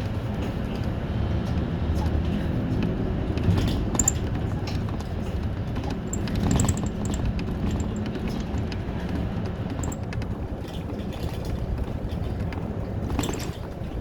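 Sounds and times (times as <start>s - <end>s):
bus engine running: 0.0s - 14.0s
road noise inside bus: 0.0s - 14.0s.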